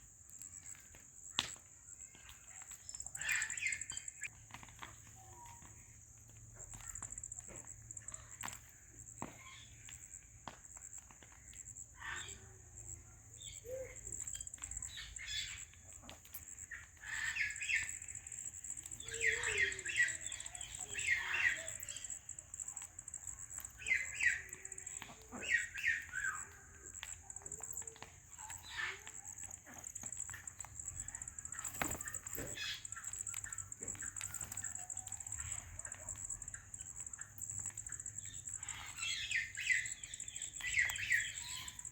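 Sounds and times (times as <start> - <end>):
parrots chattering and squawking: 1.4 - 4.3, 10.8 - 41.9
steady high-pitched hiss: 5.1 - 41.9.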